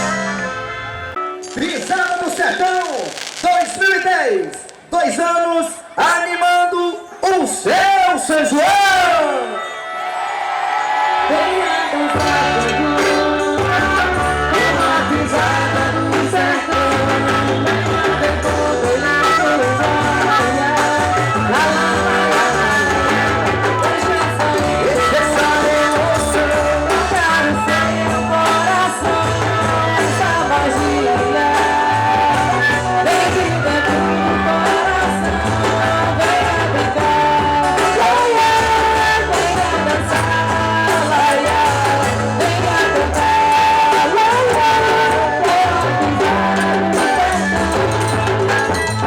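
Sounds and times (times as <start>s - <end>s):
loud band music: 0.0s - 5.2s, 7.8s - 49.0s.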